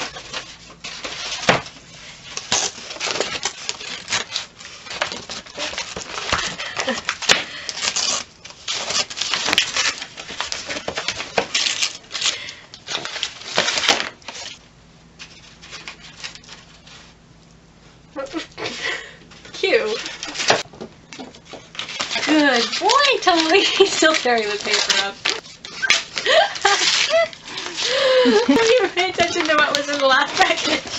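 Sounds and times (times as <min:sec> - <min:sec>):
wrapping paper crackling and tearing: 0:00.0 - 0:17.2, 0:18.2 - 0:30.9.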